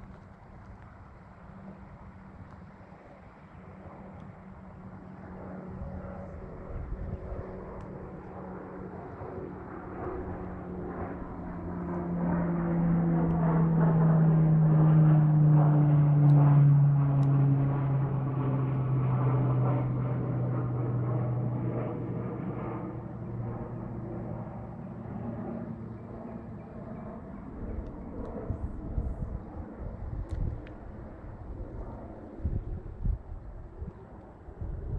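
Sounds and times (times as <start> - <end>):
aircraft engine drone: 0.0 - 34.9.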